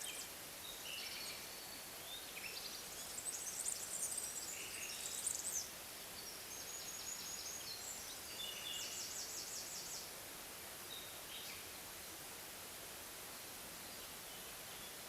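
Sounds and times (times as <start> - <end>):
small songbirds chirping: 0.0 - 10.2, 10.8 - 11.8, 13.8 - 15.0
steady soft hiss: 0.0 - 15.0.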